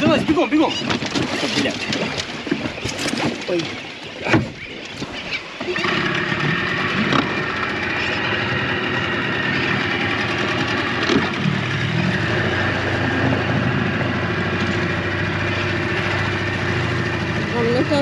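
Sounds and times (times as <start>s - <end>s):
small outboard motor running: 0.0s - 18.0s.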